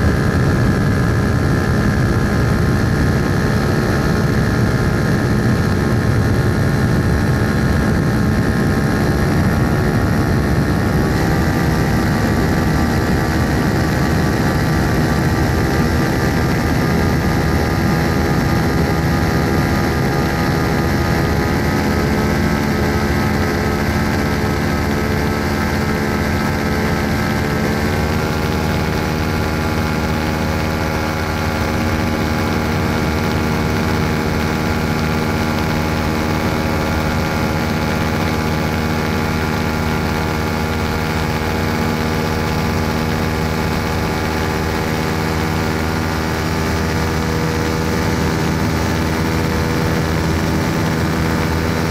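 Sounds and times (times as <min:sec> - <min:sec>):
low rumble of wind: 0:00.0 - 0:51.9
propeller engine running: 0:00.0 - 0:51.9.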